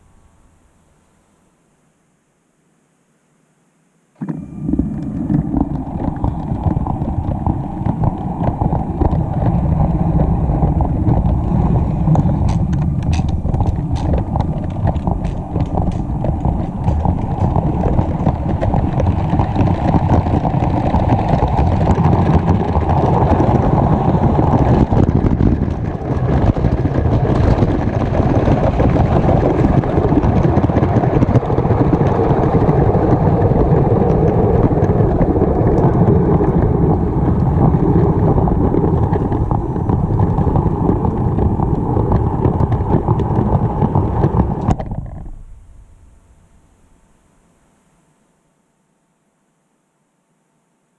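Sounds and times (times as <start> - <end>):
rumbling drone: 0.0 - 2.1, 4.0 - 47.8.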